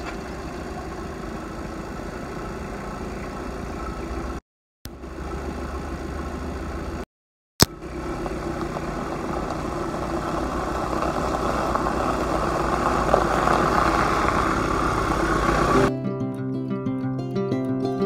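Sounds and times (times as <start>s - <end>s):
van engine running: 0.0s - 7.1s, 7.7s - 15.9s.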